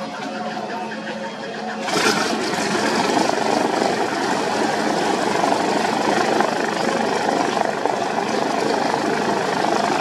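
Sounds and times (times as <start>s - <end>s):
propeller plane engine running: 1.6s - 10.0s.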